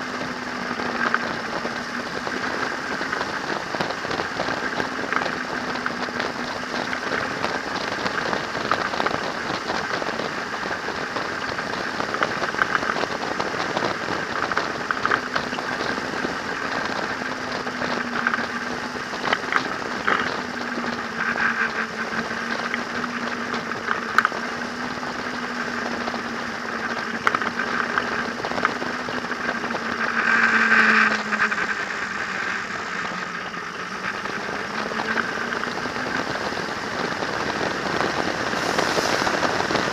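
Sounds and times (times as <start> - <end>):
motor trike engine running: 0.0 - 39.9
wind rushing on microphone: 0.0 - 39.9.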